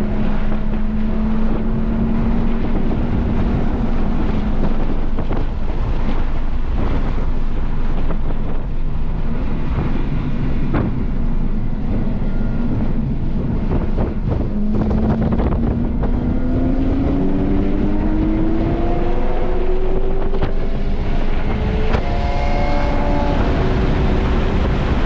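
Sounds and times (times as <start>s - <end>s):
car engine running: 0.0s - 25.0s
wind buffeting microphone: 0.0s - 25.0s.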